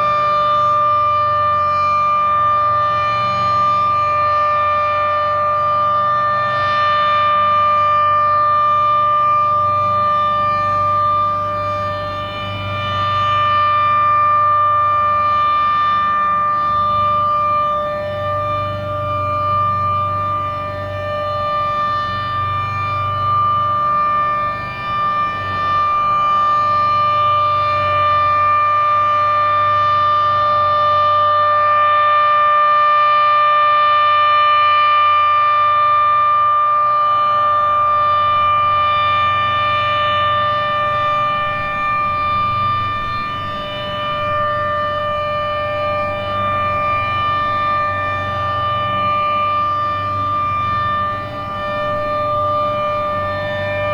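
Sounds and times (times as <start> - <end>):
rotating warning siren tone: 0.0 - 53.9.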